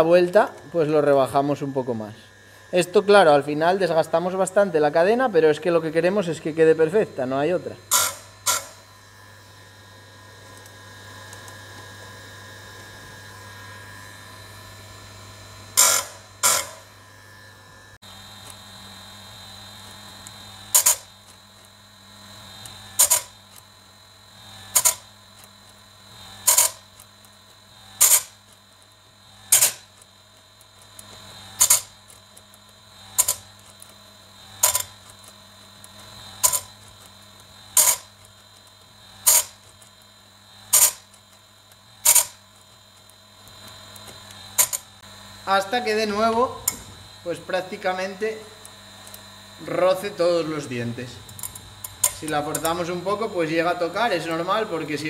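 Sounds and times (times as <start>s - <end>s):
grinding wheel grinding metal: 0.0s - 55.0s
sharpener motor running: 0.0s - 55.0s.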